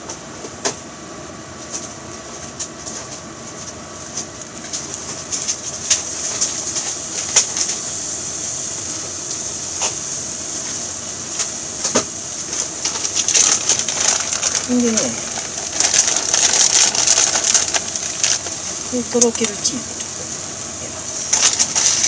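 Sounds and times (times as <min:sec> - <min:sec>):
milk sizzling in a frying pan: 0:01.7 - 0:22.0.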